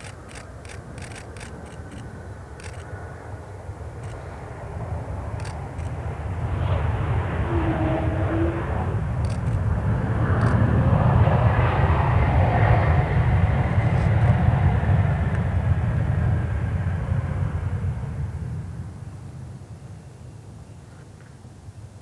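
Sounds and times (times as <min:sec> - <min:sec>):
jet airliner engines rumbling: 0:00.0 - 0:22.0.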